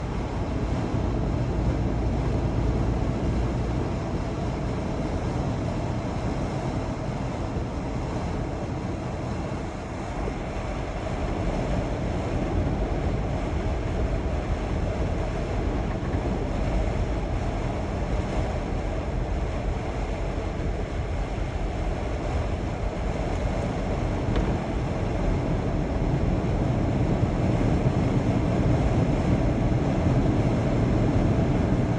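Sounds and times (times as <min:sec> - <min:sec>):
road noise: 0:00.0 - 0:31.9
truck engine droning: 0:00.0 - 0:31.9
wind: 0:00.0 - 0:31.9.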